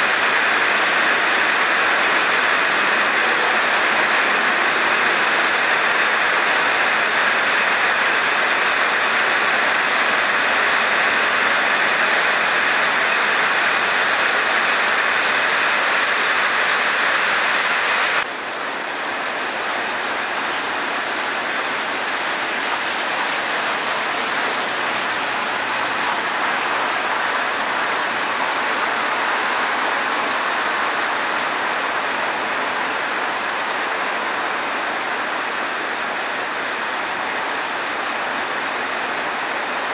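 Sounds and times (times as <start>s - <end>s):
heavy rain on asphalt: 0.0s - 39.9s
rain falling on leafy trees: 0.0s - 39.9s.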